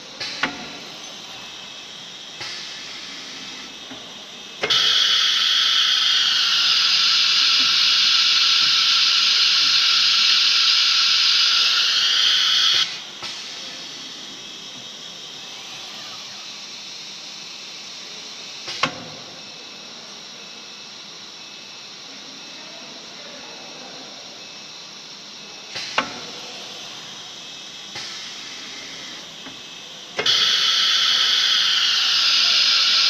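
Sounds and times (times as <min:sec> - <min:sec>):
cnc router hissing: 0:00.0 - 0:33.0.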